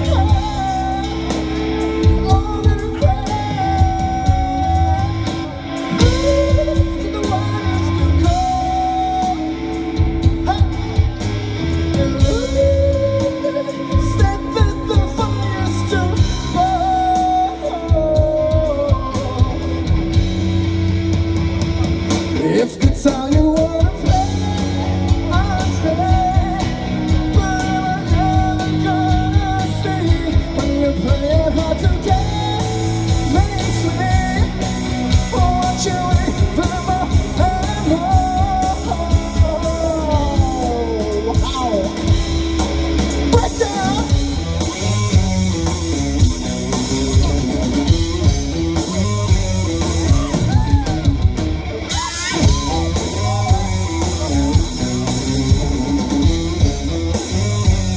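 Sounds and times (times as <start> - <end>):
electric guitars: 0.0 - 57.9
low bass: 0.0 - 57.9.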